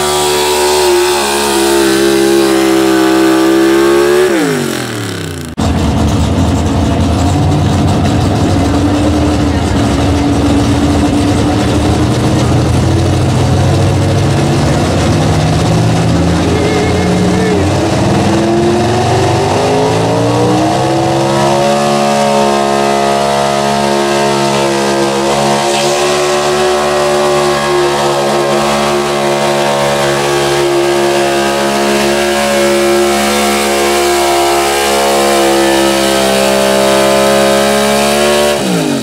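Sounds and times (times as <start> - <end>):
truck engine at full throttle: 0.0 - 39.0.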